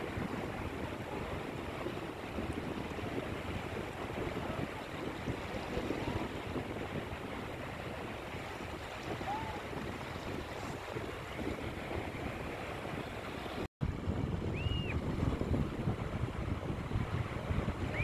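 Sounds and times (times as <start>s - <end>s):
waves washing up shore: 0.0s - 18.0s
wind buffeting microphone: 0.0s - 18.0s.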